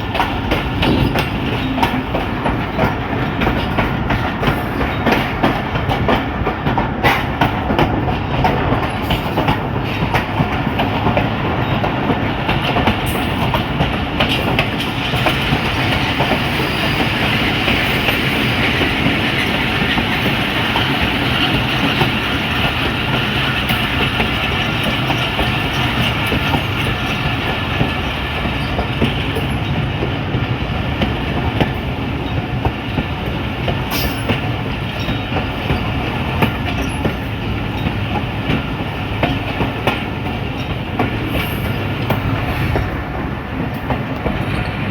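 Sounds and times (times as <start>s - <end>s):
train rumbling on rails: 0.0s - 44.9s
wheels clickety-clack over track: 0.0s - 44.9s.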